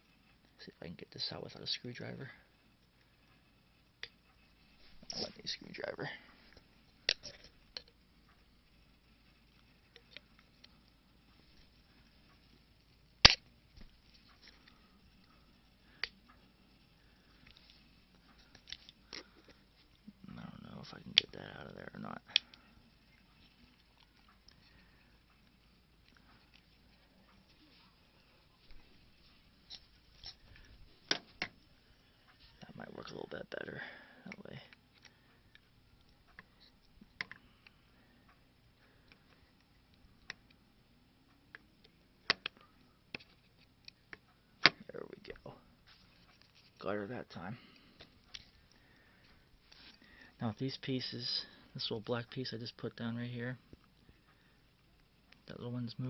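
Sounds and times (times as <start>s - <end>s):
faint ticks and rustles: 0.0s - 56.0s.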